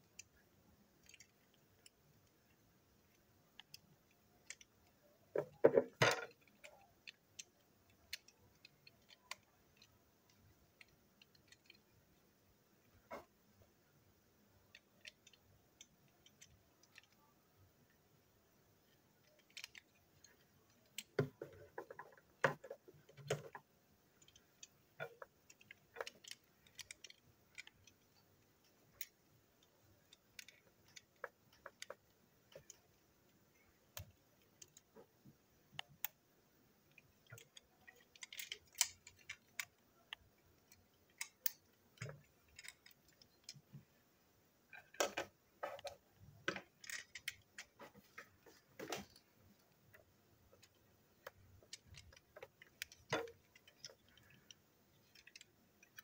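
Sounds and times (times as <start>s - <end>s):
small plastic parts clicking: 0.0s - 13.8s, 14.6s - 44.0s, 44.7s - 56.0s.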